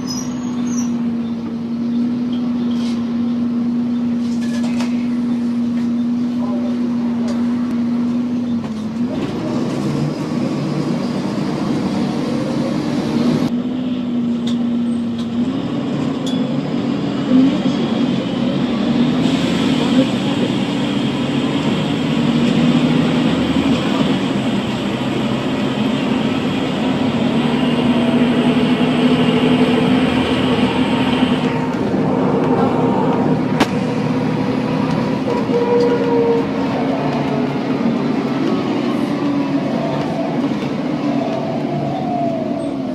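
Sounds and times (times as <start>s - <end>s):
bus engine drone and whine: 0.0s - 42.9s.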